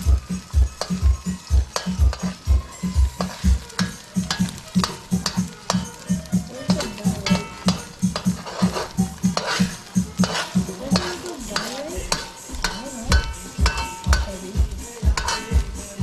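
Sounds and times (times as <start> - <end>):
background music with beat: 0.0 - 16.0
eggs sizzling: 0.0 - 16.0
ladle scraping metal wok: 0.0 - 16.0.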